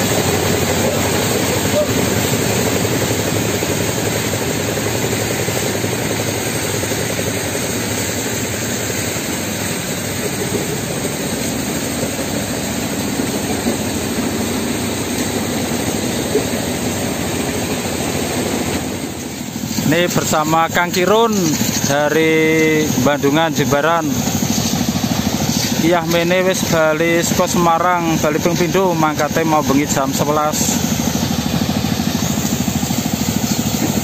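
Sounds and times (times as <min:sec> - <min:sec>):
stone crusher running: 0:00.0 - 0:34.0.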